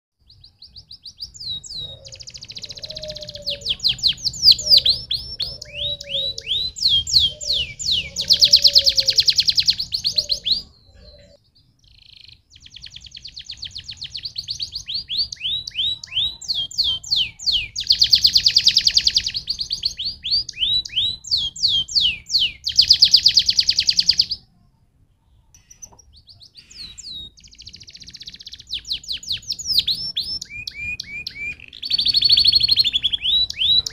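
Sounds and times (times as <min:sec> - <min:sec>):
canary singing: 0:00.2 - 0:24.5, 0:25.4 - 0:33.9.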